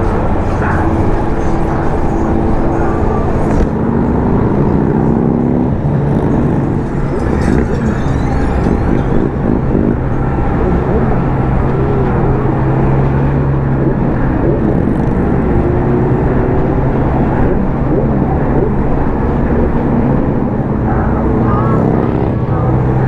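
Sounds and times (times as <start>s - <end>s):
sounds rising and falling in pitch: 0.0s - 23.0s
vehicle engine running: 0.0s - 23.0s.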